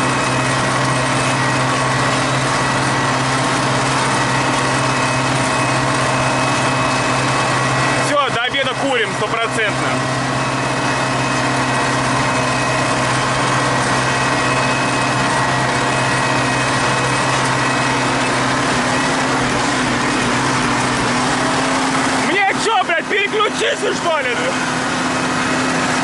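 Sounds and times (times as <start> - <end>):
tractor diesel engine drone: 0.0 - 26.0.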